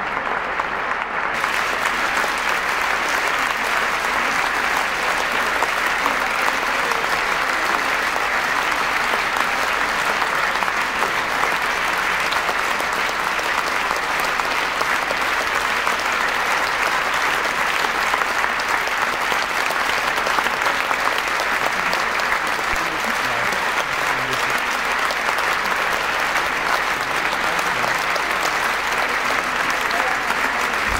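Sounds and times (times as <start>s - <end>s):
large audience applauding: 0.0s - 30.9s.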